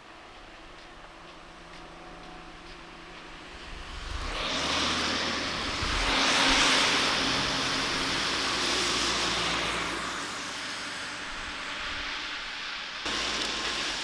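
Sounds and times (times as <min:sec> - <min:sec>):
vehicle passing with tyre hiss: 0:01.6 - 0:14.0.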